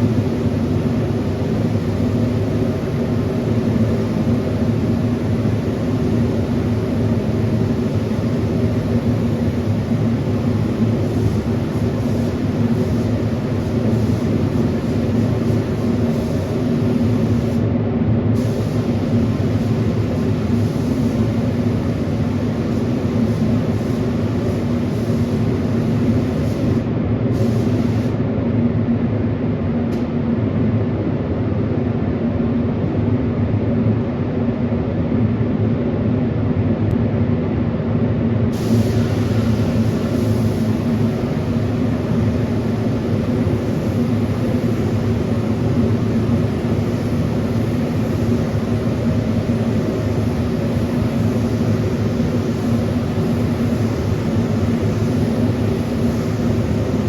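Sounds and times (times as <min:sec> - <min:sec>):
hiss: 0:00.0 - 0:17.7, 0:18.4 - 0:28.2, 0:38.5 - 0:57.0
machine drone with low hum: 0:00.0 - 0:57.0.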